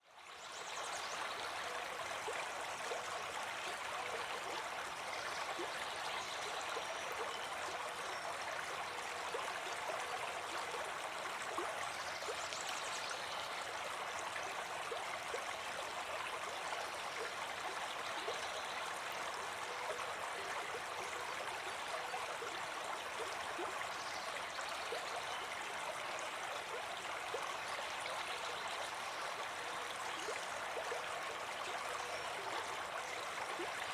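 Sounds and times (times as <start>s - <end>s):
river water over rocks: 0.1s - 33.9s.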